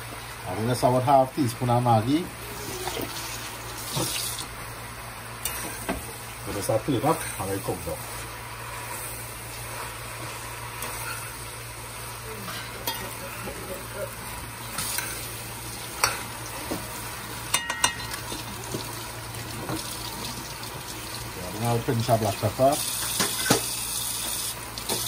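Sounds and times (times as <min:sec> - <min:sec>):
beans and potatoes sizzling: 0:00.0 - 0:25.0.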